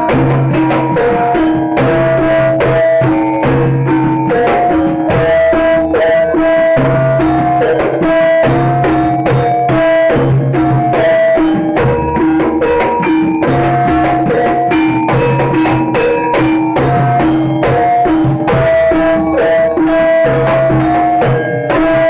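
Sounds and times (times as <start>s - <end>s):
drums in steady pattern: 0.0s - 22.0s
held melody notes: 0.0s - 22.0s.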